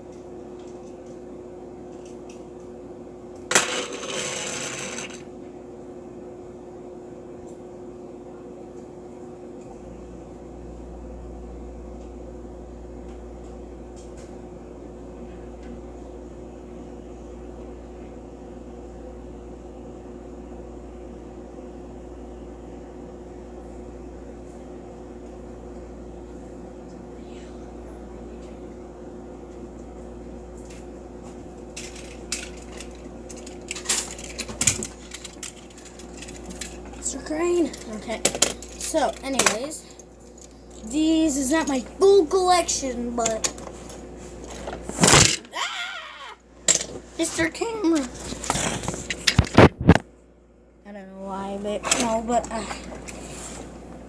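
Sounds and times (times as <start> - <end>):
appliance hum: 0.0 - 54.0.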